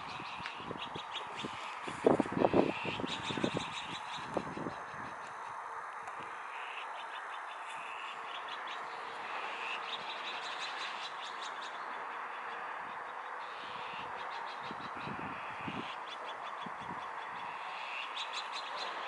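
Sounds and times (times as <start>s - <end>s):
small birds chirping: 0.0s - 19.0s
steady background noise: 0.0s - 19.0s.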